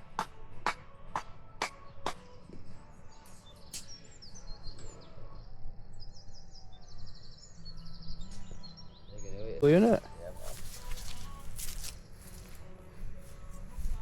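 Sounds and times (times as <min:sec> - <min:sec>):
small birds chirping: 0:01.9 - 0:14.0.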